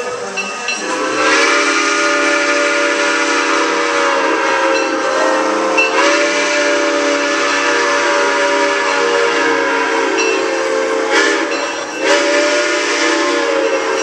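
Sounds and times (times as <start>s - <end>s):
train whistle blasts: 0.0s - 14.0s.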